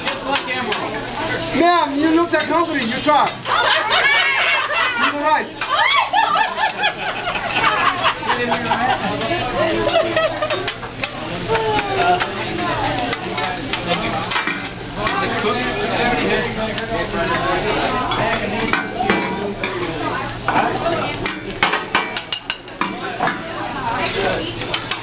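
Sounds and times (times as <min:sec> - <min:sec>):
rice sizzling on a griddle: 0:00.0 - 0:25.0.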